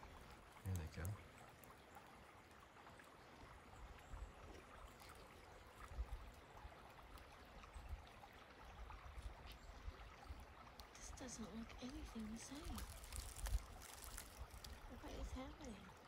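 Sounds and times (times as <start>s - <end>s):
low-running creek hiss: 0.0s - 16.0s.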